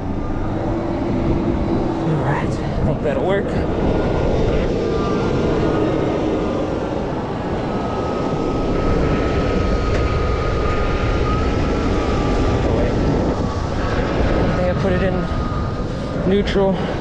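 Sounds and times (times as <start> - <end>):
truck engine rumble: 0.0 - 17.0.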